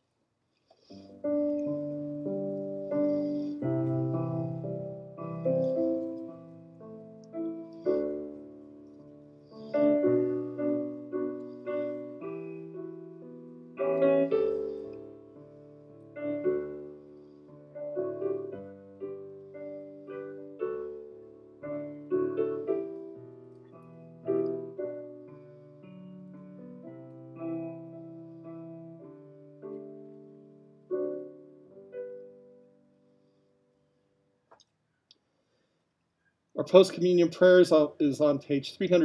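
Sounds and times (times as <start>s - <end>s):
slow quiet piano music: 0.6s - 34.6s.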